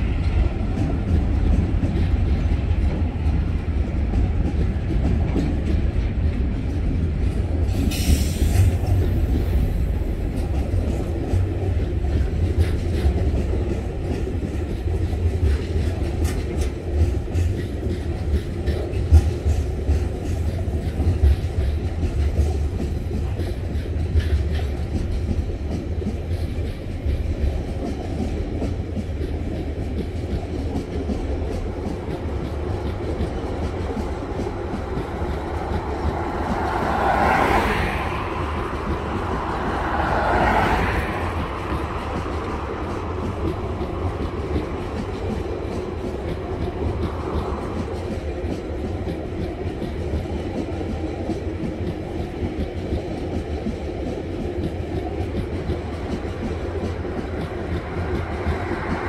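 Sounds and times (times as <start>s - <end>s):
train wheels rumbling on rail: 0.0s - 59.0s
wheels clicking over rail joints: 0.0s - 59.0s.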